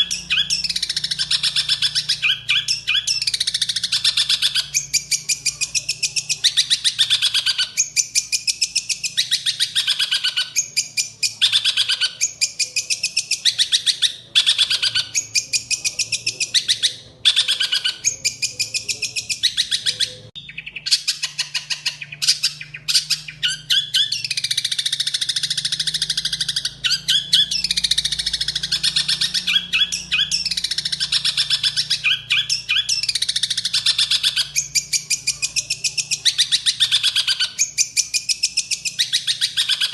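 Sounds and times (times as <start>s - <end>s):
songbird chattering: 0.0s - 39.9s.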